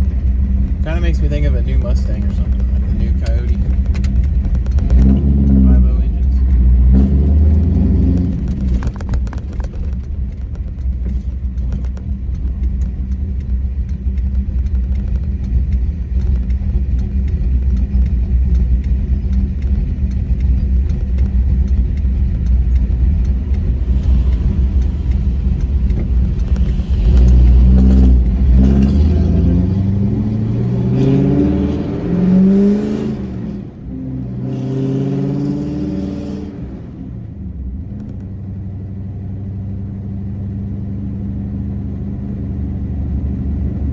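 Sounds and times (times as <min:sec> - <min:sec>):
truck engine accelerating: 0:00.0 - 0:43.9.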